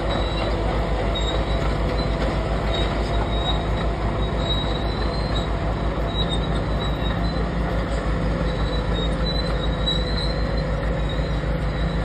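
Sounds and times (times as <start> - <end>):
high wheel squeal: 0.0 - 12.0
steel wheels rumbling on rail: 0.0 - 12.0.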